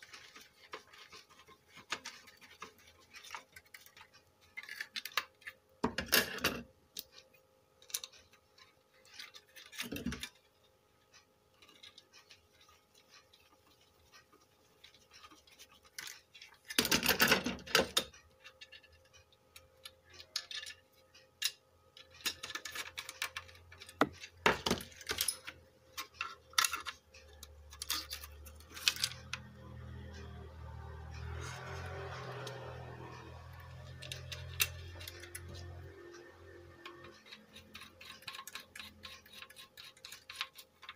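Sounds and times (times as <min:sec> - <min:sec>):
small tools clicking and scraping: 0:00.0 - 0:40.9.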